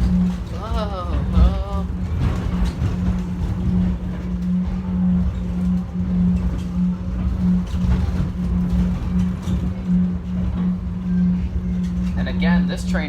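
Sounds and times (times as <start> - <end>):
low rumble: 0.0 - 13.0
train motor hum: 0.0 - 13.0.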